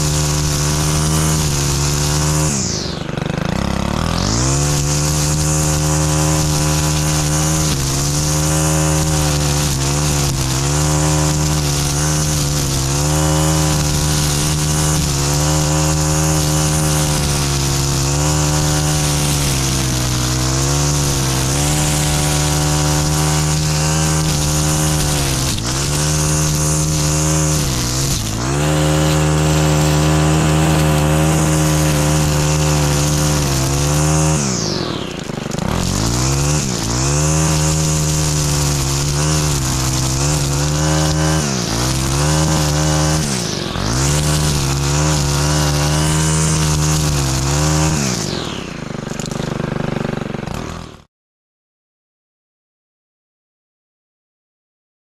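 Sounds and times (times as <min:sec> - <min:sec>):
string trimmer engine at high revs: 0:00.0 - 0:51.1
trimmer line cutting weeds: 0:00.0 - 0:51.1.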